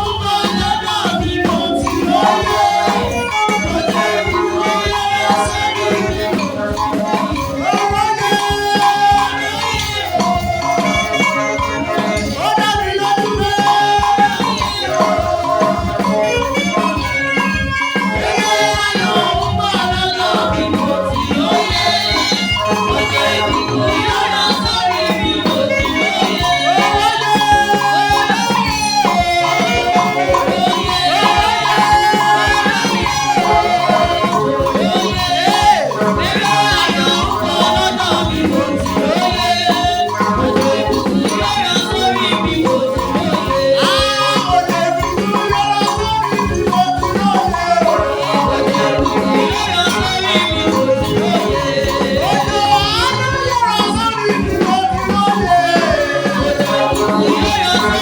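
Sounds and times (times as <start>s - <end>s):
fast percussion beat: 0.0s - 58.0s
shaker rattling: 0.0s - 58.0s
upbeat praise music: 0.0s - 58.0s.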